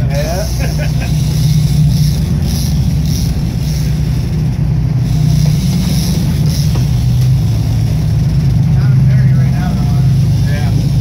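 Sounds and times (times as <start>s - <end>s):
boat engines humming: 0.0s - 11.0s
water rushing along hull: 0.0s - 11.0s
wind: 0.0s - 11.0s.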